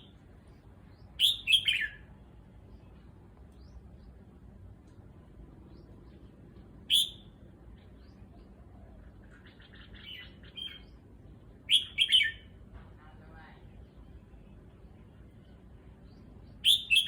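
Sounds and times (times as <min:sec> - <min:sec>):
bird chirping: 0:00.0 - 0:04.4, 0:05.5 - 0:12.6, 0:13.8 - 0:17.0.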